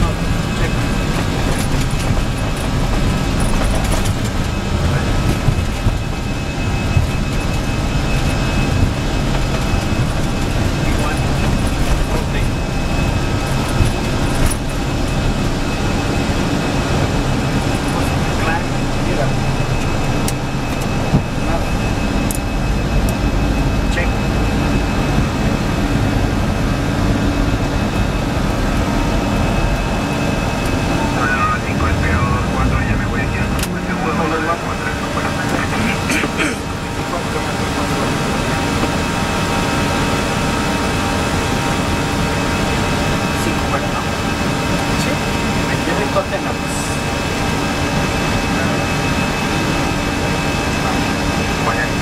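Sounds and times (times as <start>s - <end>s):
airplane cockpit noise: 0.0s - 52.0s
faint high whine: 0.0s - 52.0s
jet engines and wheels rumbling: 0.0s - 52.0s.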